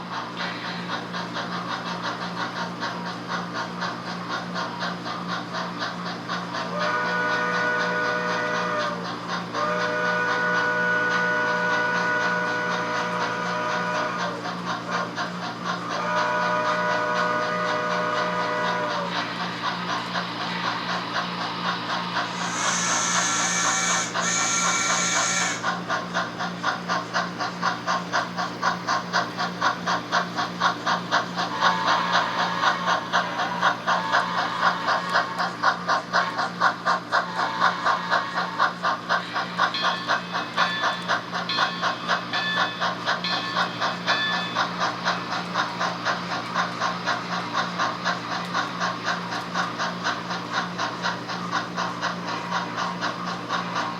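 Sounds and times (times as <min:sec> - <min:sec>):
steam hiss: 0:00.0 - 0:03.1, 0:06.3 - 0:53.9
rhythmic steam chuffing: 0:00.0 - 0:53.9.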